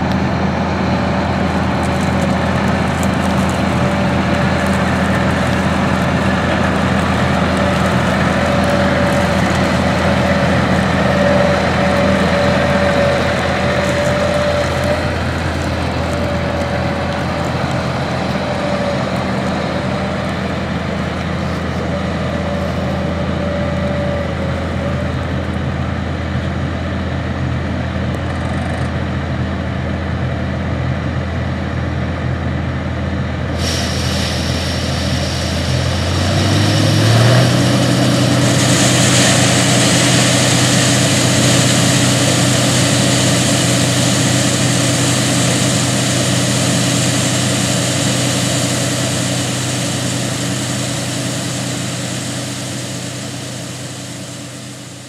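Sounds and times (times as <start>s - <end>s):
combine and tractor engines: 0.0s - 55.0s
grain pouring hiss: 0.1s - 25.5s, 33.5s - 55.0s.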